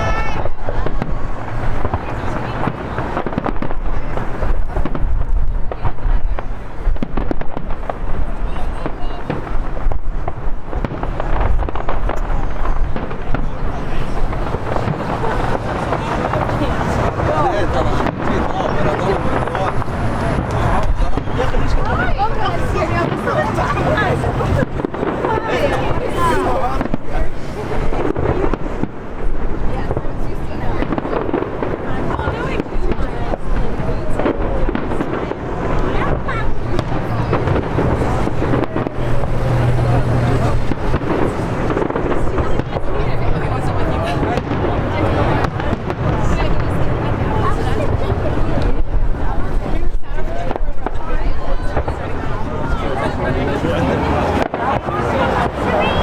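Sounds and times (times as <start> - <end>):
crowd chatter: 0.0 - 56.0
fireworks bangs and crackles: 0.0 - 56.0
wind on microphone: 0.0 - 56.0.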